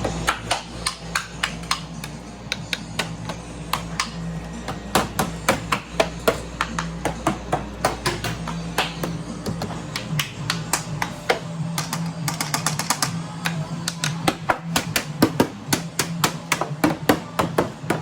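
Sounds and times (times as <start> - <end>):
music with low note: 0.0 - 18.0.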